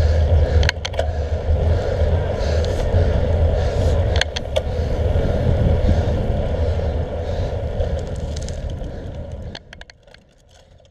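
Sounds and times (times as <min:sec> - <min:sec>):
road rumble: 0:00.0 - 0:10.9
wind: 0:00.0 - 0:10.9.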